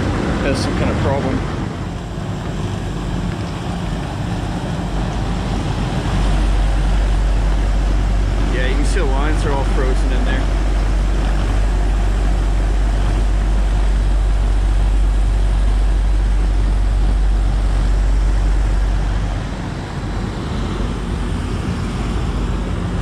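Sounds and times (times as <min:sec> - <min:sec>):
fan noise: 0:00.0 - 0:23.0
heat pump low hum: 0:00.0 - 0:23.0.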